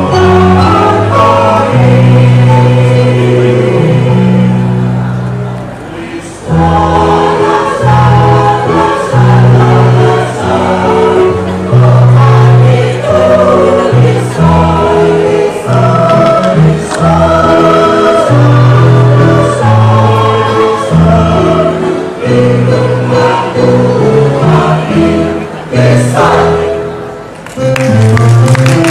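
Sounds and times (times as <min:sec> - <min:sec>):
choir singing a hymn: 0:00.0 - 0:27.2
keyboard accompaniment: 0:00.0 - 0:28.9.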